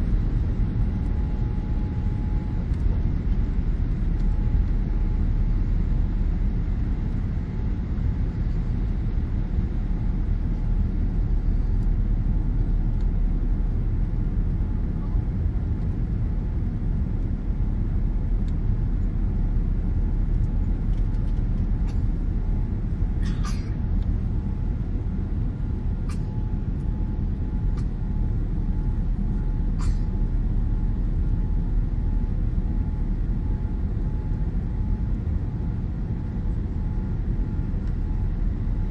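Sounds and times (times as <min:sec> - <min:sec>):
aircraft cabin engine rumble: 0:00.0 - 0:38.9
faint steady whine: 0:00.0 - 0:38.9.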